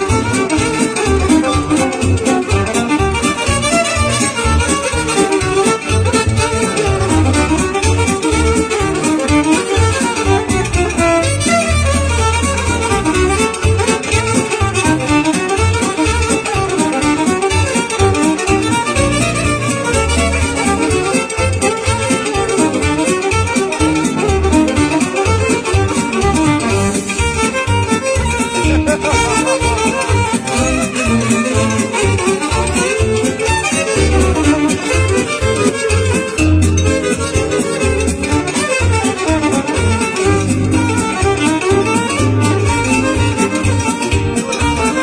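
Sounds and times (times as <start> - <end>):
live band music: 0.0 - 45.0
pulsing bass beat: 0.0 - 45.0
violin lead: 0.0 - 45.0.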